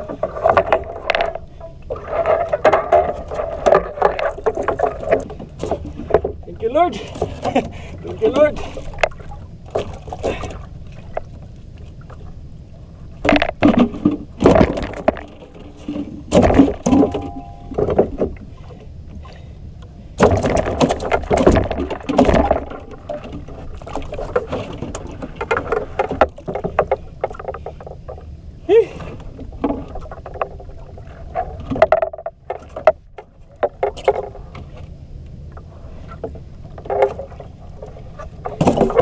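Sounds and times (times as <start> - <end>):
knocks and clatter on boat: 0.0 - 12.4, 13.0 - 19.4, 20.2 - 28.4, 29.0 - 39.0
steady low rumble: 0.0 - 39.0.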